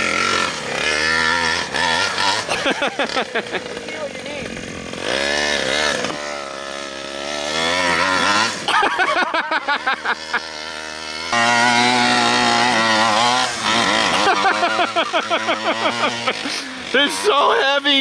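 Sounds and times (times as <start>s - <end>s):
toy truck engine revving: 0.0s - 18.0s.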